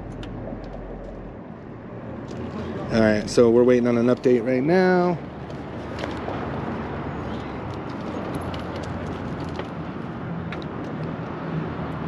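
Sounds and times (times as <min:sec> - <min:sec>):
street noise rush: 0:00.0 - 0:12.0.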